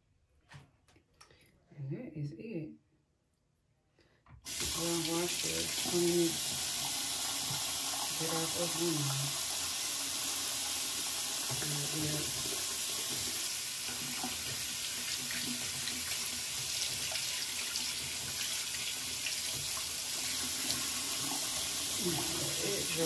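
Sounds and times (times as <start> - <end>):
tap water splashing: 4.5 - 23.0.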